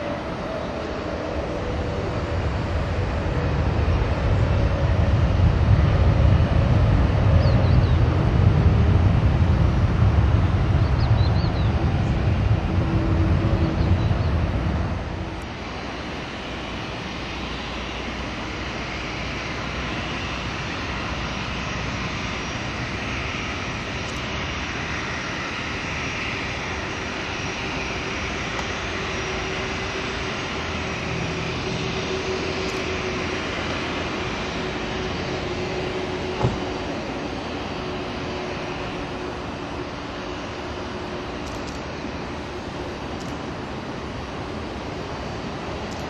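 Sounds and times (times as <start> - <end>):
jet engines taxiing: 0.0 - 46.0.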